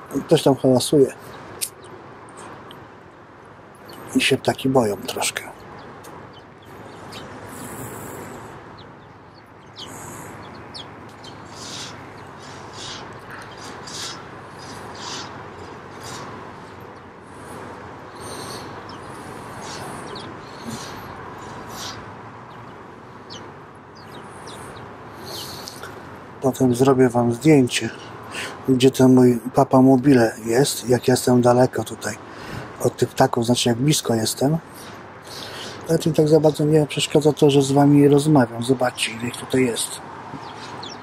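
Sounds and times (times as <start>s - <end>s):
songbirds chirping: 0.0s - 41.0s
steady background hiss: 0.0s - 41.0s.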